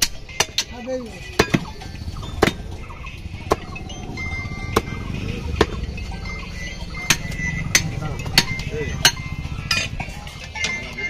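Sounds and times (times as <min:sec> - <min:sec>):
low market background noise: 0:00.0 - 0:11.0.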